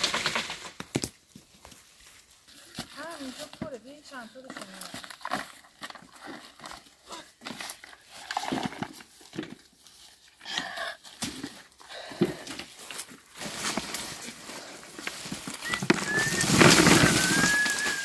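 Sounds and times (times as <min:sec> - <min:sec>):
rustling of dry grass: 0:00.0 - 0:18.0.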